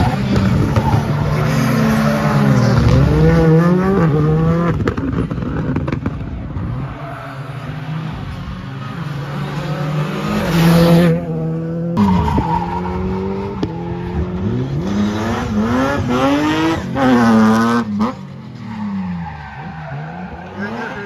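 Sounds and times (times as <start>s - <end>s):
rally car engines revving: 0.0s - 21.0s
tyres skidding and squealing: 0.0s - 21.0s.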